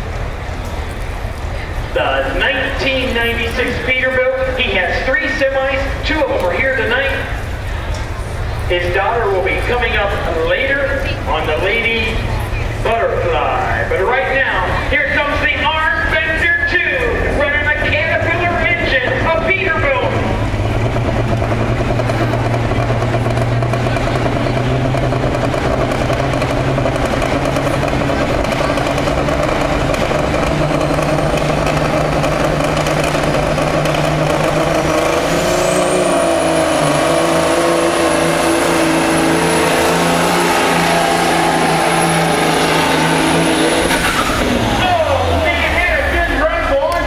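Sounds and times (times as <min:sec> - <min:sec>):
diesel engine running hard: 0:00.0 - 0:47.0.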